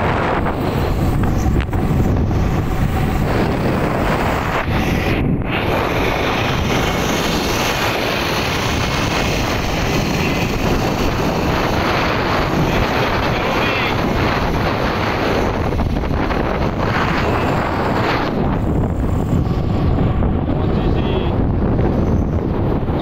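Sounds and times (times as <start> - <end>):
vehicle road noise: 0.0 - 23.0
wind rushing on microphone: 0.0 - 23.0.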